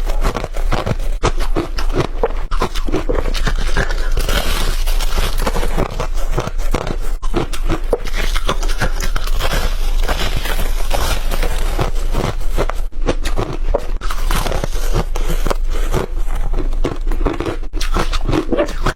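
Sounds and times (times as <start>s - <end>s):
ice crunching while chewed: 0.0s - 18.9s.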